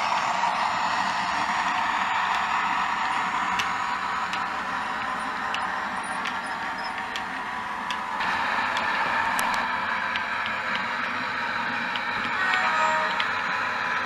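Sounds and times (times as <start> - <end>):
model train diesel engine sound: 0.0 - 14.0.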